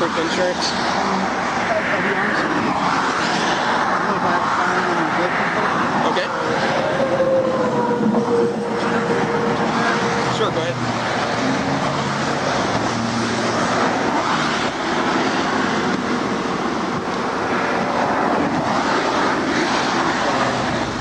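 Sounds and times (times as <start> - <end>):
highway traffic passing: 0.0 - 21.0.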